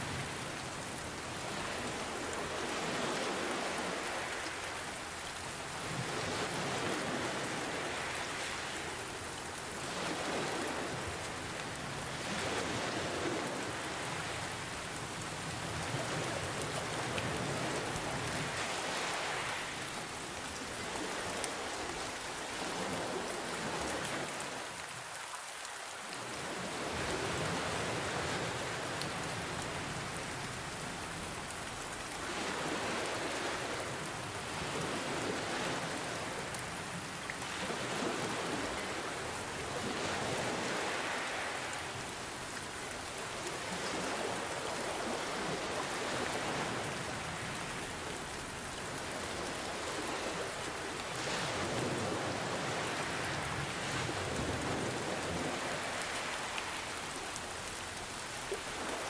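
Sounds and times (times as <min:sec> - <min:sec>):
gentle ocean waves: 0:00.0 - 0:59.0
steady rain falling: 0:00.0 - 0:59.0.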